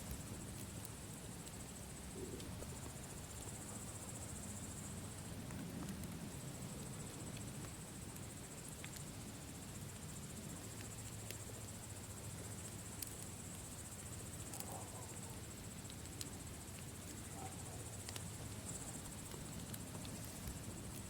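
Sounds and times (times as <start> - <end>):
campfire crackling: 0.0 - 21.0
insects chirring: 0.0 - 21.0.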